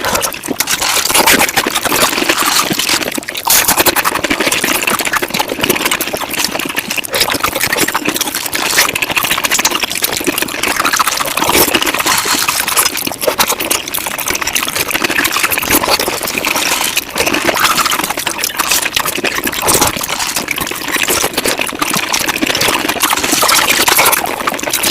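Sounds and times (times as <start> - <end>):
sped-up wet eating noises: 0.0 - 24.9.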